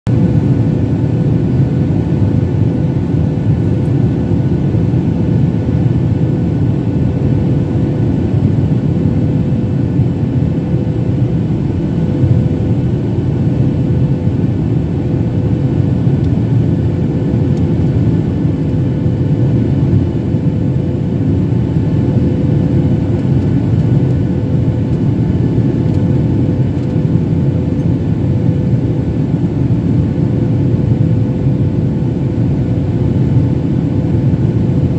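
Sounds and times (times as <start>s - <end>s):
airplane engines and airflow rumble: 0.1s - 34.9s
constant hum: 0.1s - 34.9s.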